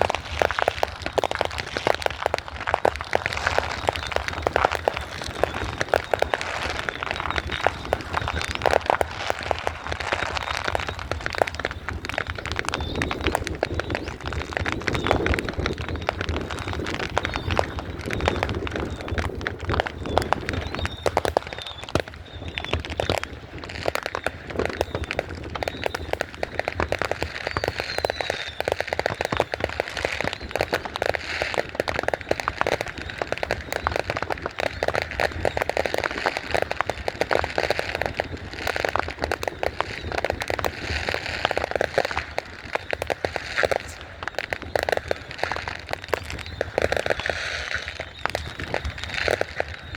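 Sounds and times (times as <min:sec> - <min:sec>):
fireworks crackling and popping: 0:00.0 - 0:49.9.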